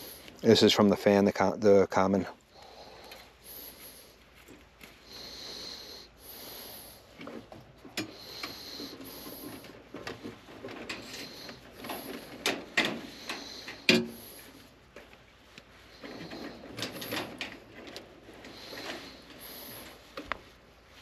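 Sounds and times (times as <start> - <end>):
wires rustling and scraping: 0.0 - 21.0.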